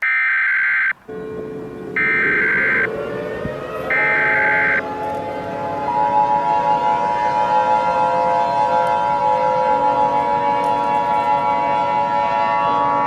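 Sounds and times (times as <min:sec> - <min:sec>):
steady siren chord: 0:01.0 - 0:13.0.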